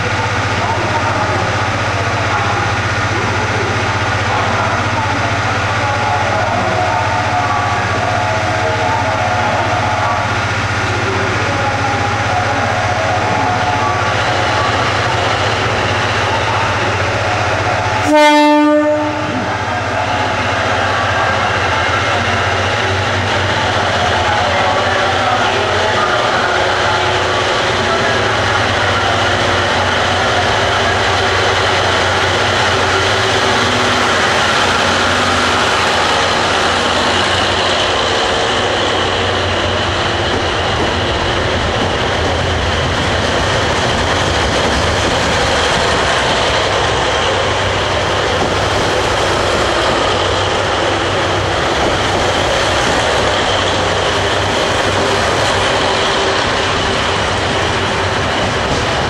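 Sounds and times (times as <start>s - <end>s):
diesel railcar engines running: 0.0s - 59.0s.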